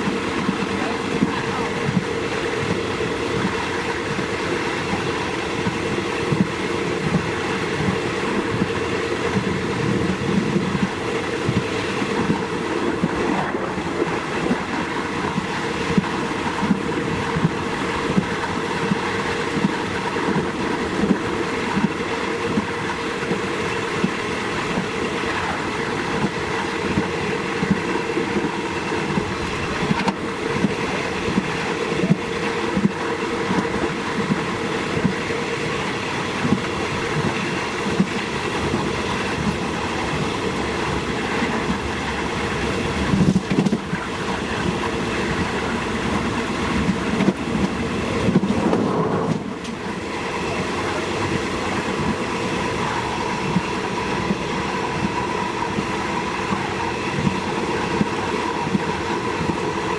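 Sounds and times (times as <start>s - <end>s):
train rumble and drone: 0.0s - 59.9s.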